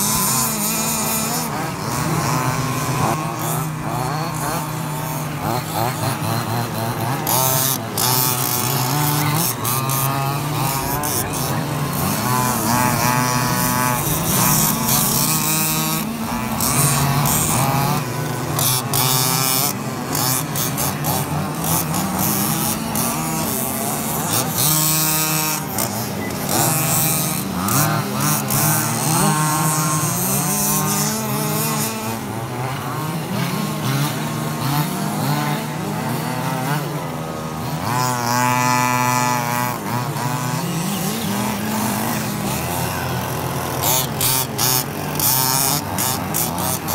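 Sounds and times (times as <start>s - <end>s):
rc car engines buzzing and revving: 0.0s - 46.9s.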